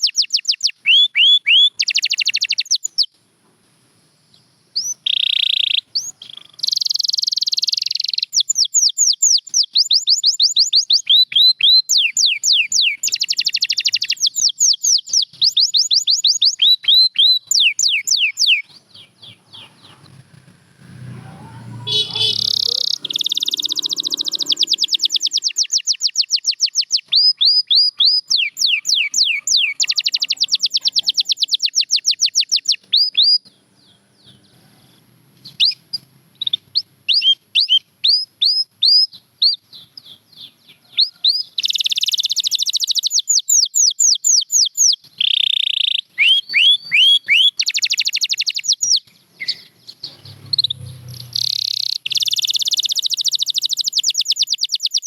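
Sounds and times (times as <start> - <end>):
canary singing trills: 0.0 - 3.2, 4.3 - 55.0.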